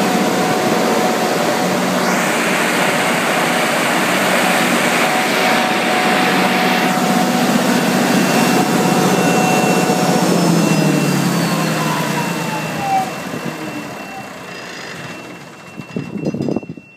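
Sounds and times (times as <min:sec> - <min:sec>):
diesel generator running: 0:00.0 - 0:16.9.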